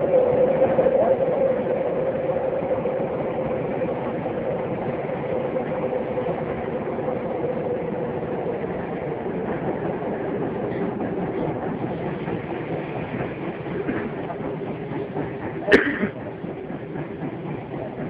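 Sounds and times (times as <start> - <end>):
subway train wheels and motors rumbling: 0.0 - 18.0
train hum: 0.0 - 18.0.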